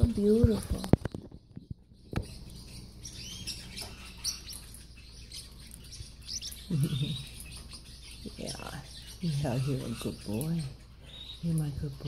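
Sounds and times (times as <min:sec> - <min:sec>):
parrotlet chirping: 0:00.0 - 0:12.0.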